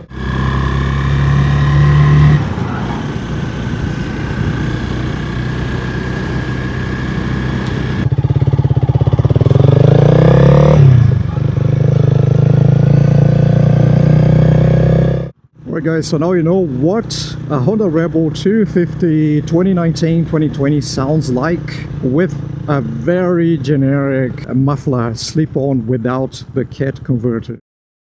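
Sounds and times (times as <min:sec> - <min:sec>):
motorcycle engine idling and revving: 0:00.0 - 0:27.5.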